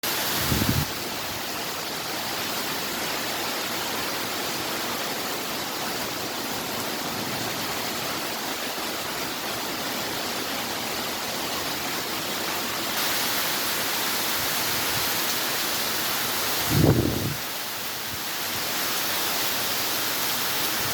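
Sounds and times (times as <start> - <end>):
heavy rain pouring: 0.0 - 20.9.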